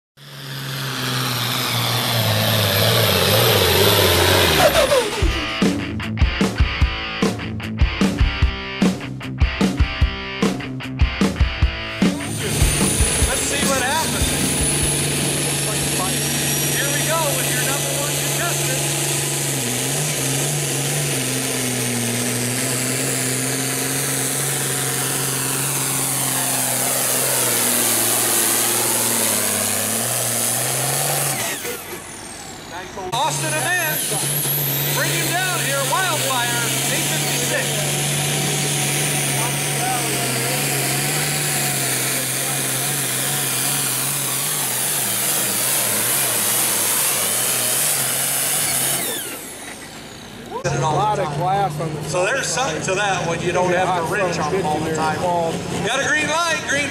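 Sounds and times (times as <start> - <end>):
tractor diesel engine under load: 0.2 - 6.0, 11.9 - 56.9
falling turbo whine: 0.2 - 6.8, 11.4 - 56.9.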